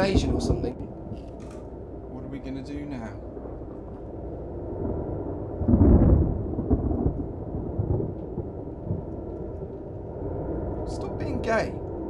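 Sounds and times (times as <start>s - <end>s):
deep low rumbling: 0.0s - 12.0s.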